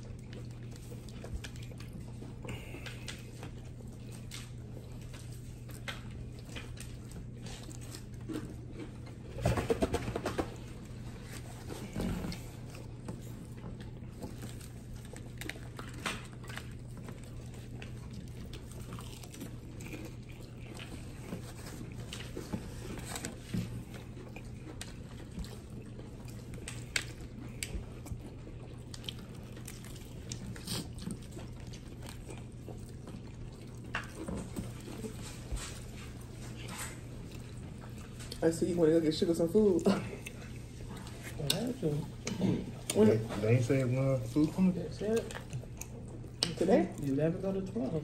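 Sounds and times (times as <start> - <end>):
chewing crispy food: 0.0 - 48.0.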